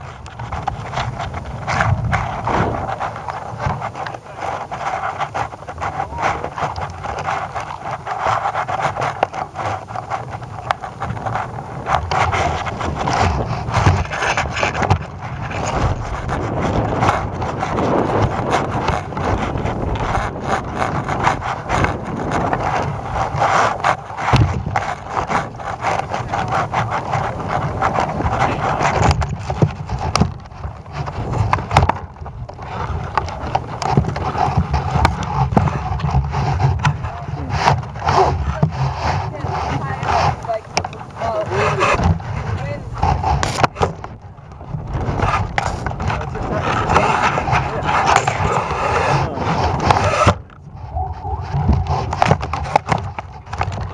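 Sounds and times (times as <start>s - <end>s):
camera payload knocking and rattling: 0.0s - 39.1s, 39.8s - 50.8s, 51.5s - 53.9s.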